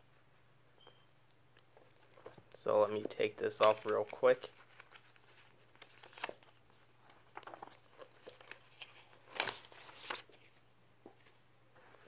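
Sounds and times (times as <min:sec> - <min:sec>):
paper rustling and crinkling: 0:01.8 - 0:12.0.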